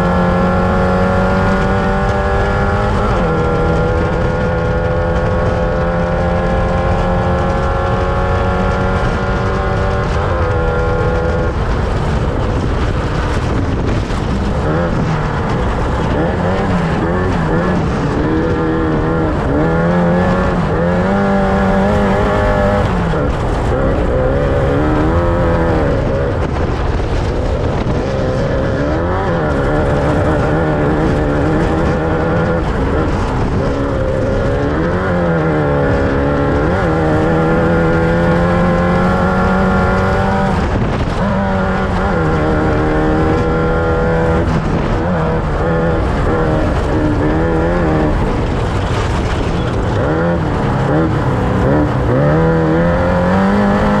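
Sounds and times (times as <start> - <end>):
race vehicle engine revving: 0.0 - 54.0.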